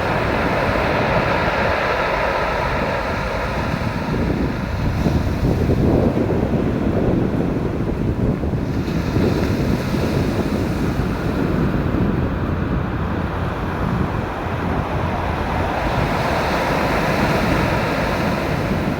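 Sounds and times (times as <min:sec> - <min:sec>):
ocean surf breaking: 0:00.0 - 0:18.9
wind rumbling on microphone: 0:00.0 - 0:18.9.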